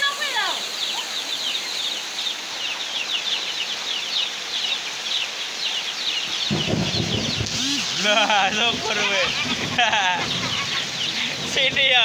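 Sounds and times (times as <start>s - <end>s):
heavy rain: 0.0s - 12.0s
bird peeping: 0.8s - 8.2s, 8.8s - 11.7s.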